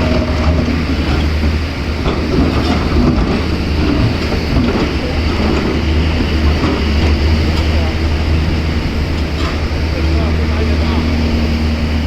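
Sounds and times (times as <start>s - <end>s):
heavy diesel machinery drone: 0.0s - 12.0s.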